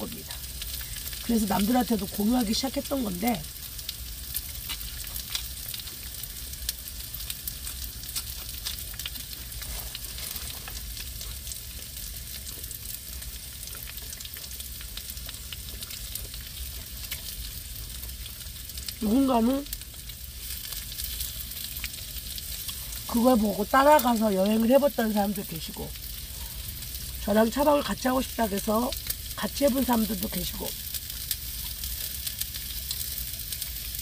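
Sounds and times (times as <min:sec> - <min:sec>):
food sizzling in a hot pan: 0:00.0 - 0:34.0.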